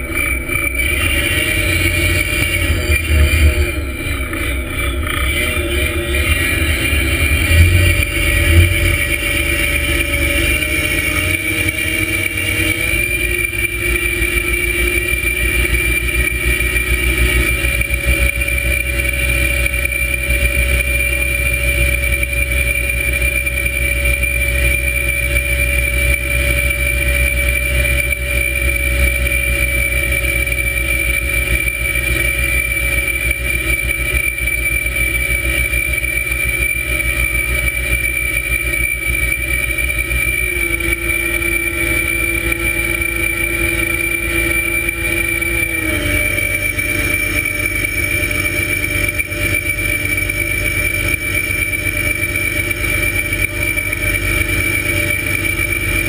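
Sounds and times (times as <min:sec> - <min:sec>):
boat engine whine and rumble: 0:00.0 - 0:56.0.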